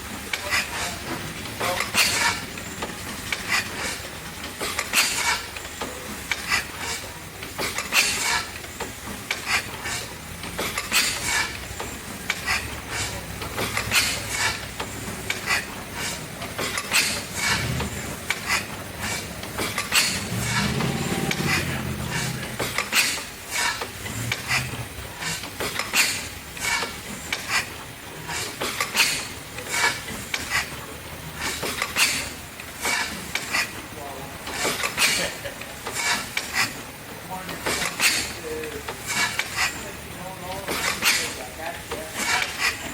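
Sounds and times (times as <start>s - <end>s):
steam engine low rumble: 0.0s - 34.6s.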